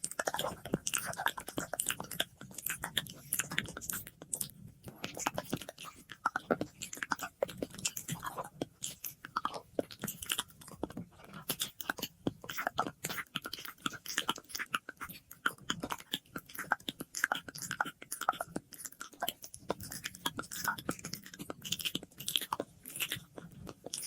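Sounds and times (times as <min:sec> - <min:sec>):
wet mouth clicks and lip smacks: 0:00.0 - 0:24.0.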